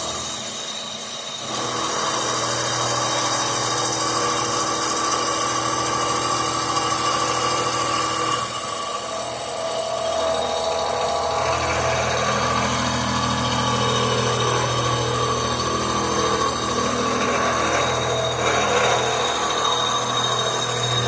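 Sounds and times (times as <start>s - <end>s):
power tool running with whine: 0.0s - 21.0s.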